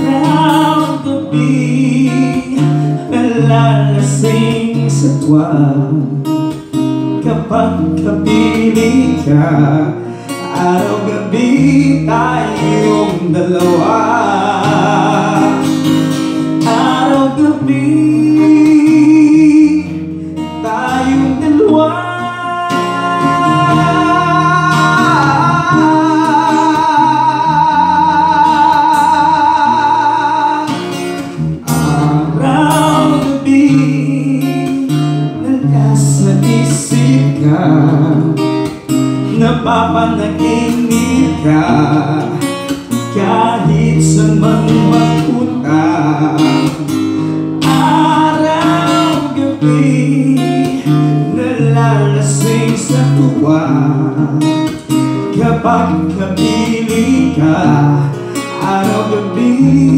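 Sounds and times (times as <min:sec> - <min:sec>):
acoustic guitar: 0:00.0 - 0:59.9
man singing: 0:00.0 - 0:59.9.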